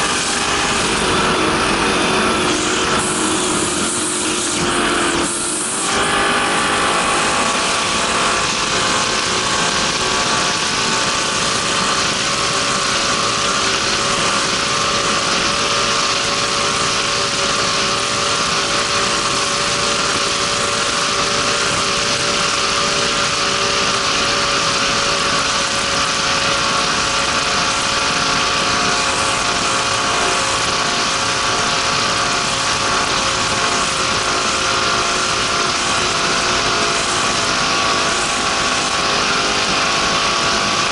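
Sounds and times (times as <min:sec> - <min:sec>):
powerboat engine running flat out: 0:00.0 - 0:40.9.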